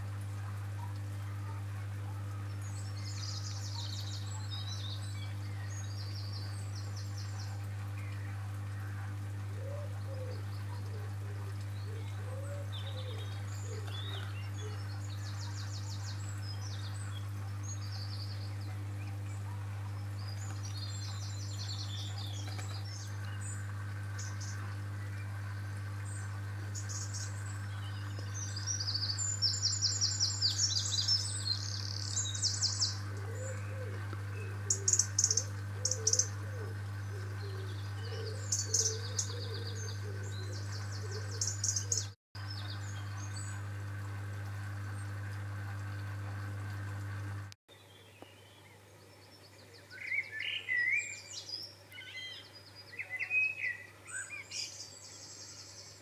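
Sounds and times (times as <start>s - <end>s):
steady low hum: 0.0s - 47.6s
songbirds trilling: 0.0s - 56.0s.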